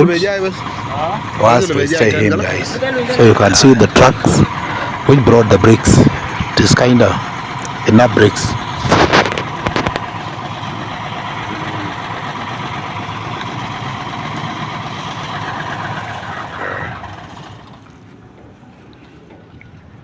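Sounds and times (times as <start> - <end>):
truck engine running: 0.0 - 18.9.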